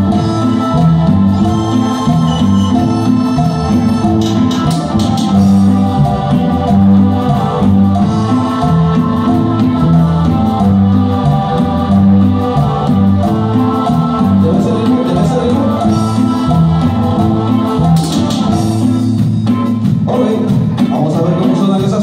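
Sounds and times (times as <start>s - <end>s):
bass line: 0.0s - 22.0s
electronic organ chords: 0.0s - 22.0s.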